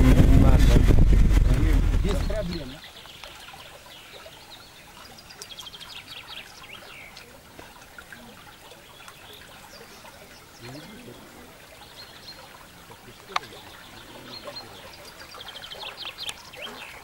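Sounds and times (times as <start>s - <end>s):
river water flowing: 0.0s - 17.0s
small birds chirping: 1.6s - 17.0s.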